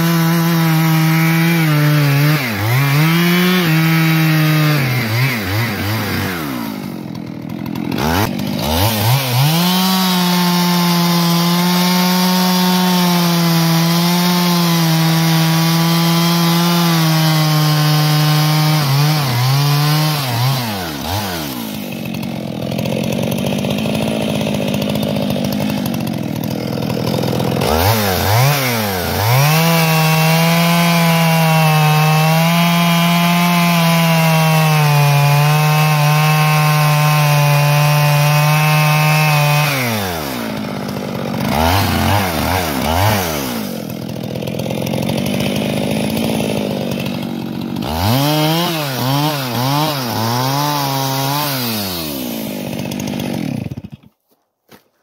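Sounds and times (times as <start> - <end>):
chainsaw revving: 0.0 - 54.2.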